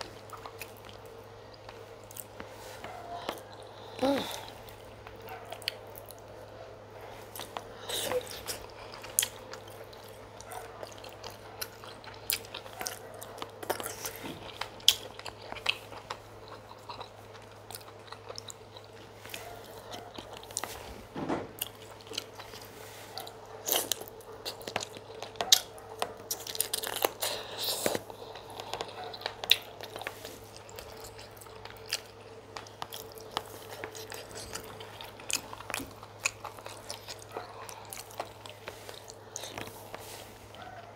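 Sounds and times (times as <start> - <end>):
person chewing: 0.0 - 20.9, 21.5 - 40.9.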